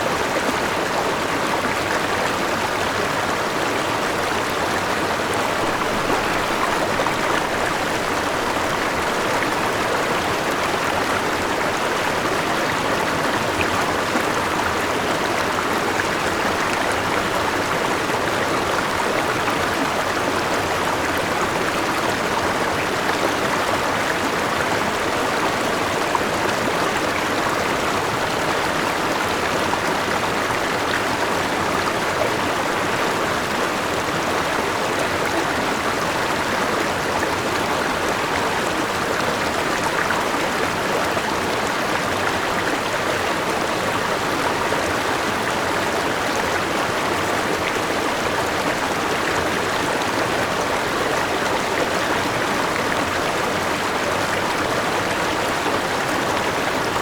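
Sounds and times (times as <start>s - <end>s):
river flowing over small waterfall: 0.0s - 57.0s.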